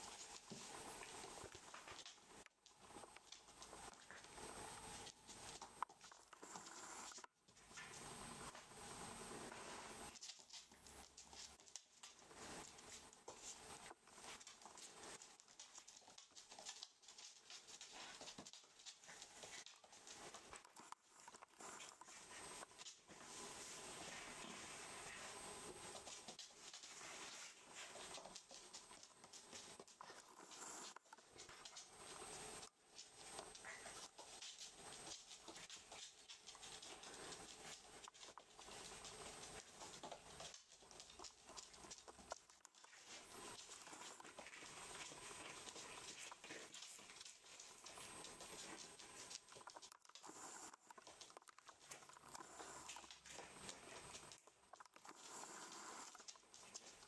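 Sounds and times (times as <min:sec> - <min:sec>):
paws clicking on hard floor: 0:00.0 - 0:57.0.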